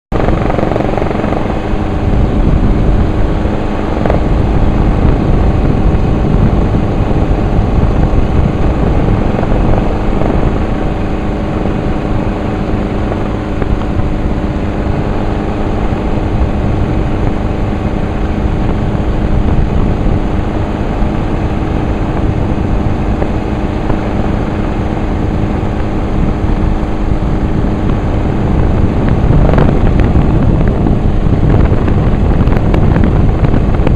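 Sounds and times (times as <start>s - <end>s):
helicopter engine and rotor: 0.1s - 33.9s.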